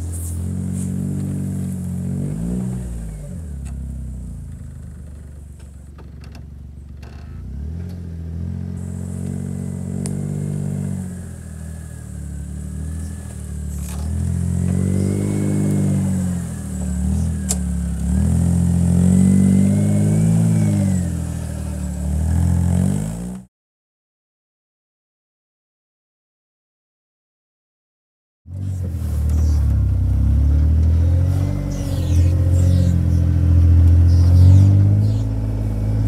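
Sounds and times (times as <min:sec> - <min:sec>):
thin engine whine: 0:00.0 - 0:23.5, 0:28.5 - 0:36.0
utility vehicle engine revving: 0:00.0 - 0:23.5, 0:28.5 - 0:36.0.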